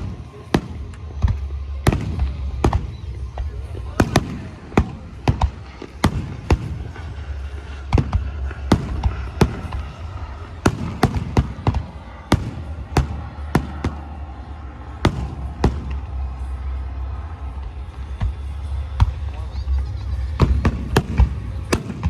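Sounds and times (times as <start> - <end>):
fireworks bangs: 0.0 - 19.4, 20.2 - 22.0
low rumble: 0.0 - 22.0.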